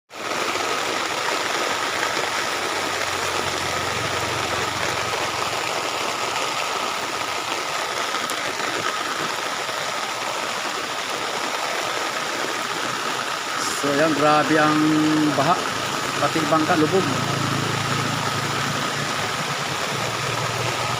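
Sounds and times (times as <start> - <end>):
floodwater rushing: 0.1 - 20.9.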